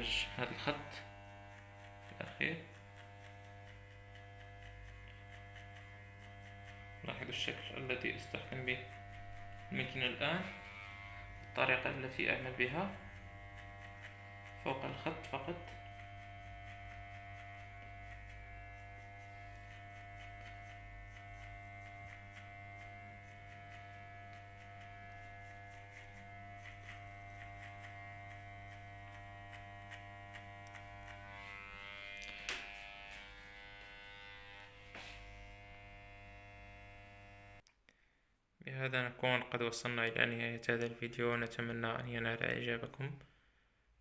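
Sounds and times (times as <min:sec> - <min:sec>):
electric hair clipper buzzing: 0:00.0 - 0:37.6.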